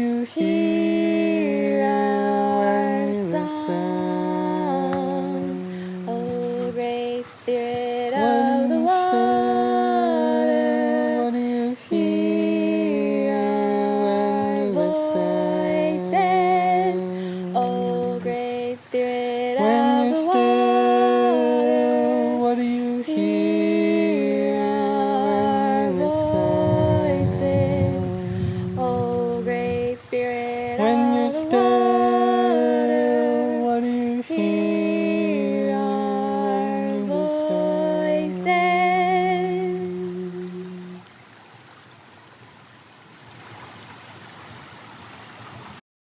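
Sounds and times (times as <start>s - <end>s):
two voices singing a chant: 0.0s - 41.0s
flowing creek water: 0.0s - 45.8s.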